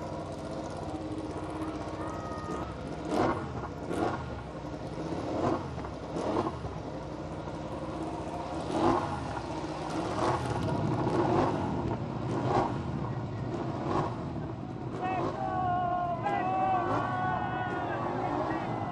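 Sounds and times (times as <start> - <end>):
motorcycle engines revving: 0.0 - 18.9.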